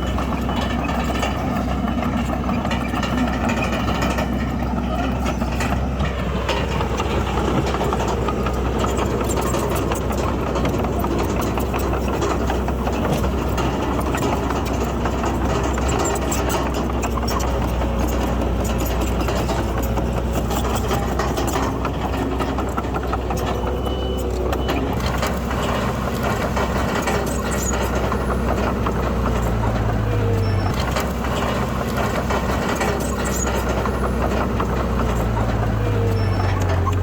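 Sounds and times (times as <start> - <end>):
heavy machinery diesel engine running: 0.0 - 37.0
rattling and crackling: 0.0 - 37.0.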